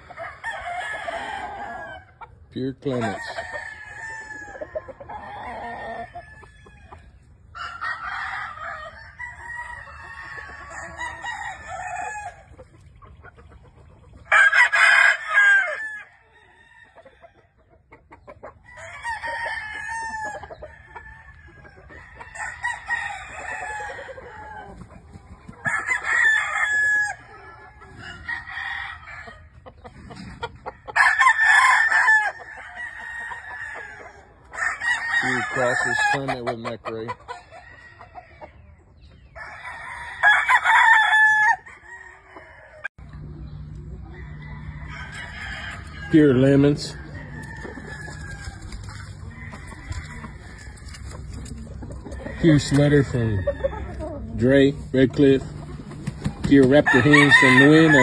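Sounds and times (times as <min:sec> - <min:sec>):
hens clucking: 0:00.0 - 0:58.0
roosters crowing: 0:00.0 - 0:58.0.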